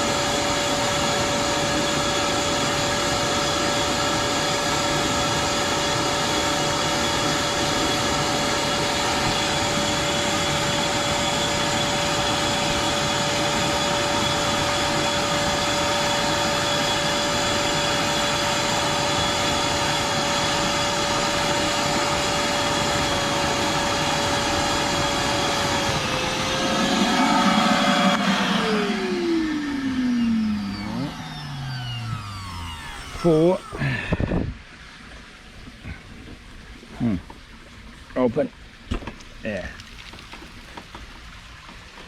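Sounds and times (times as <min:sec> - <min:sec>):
wet dry vacuum sucking water: 0:00.0 - 0:38.5.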